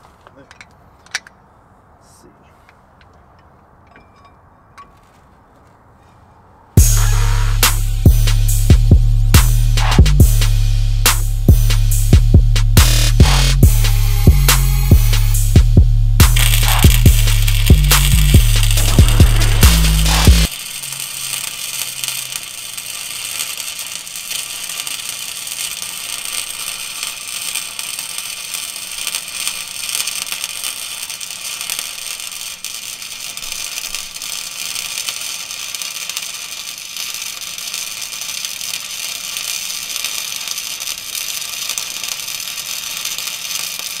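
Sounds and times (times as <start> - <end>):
welding arc crackling: 6.8 - 44.0.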